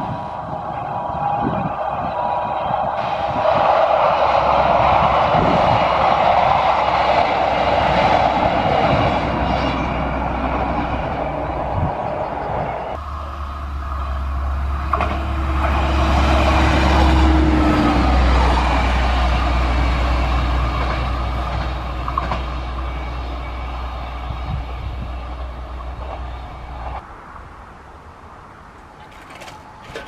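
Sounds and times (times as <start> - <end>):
diesel railcar passing: 0.0 - 30.0.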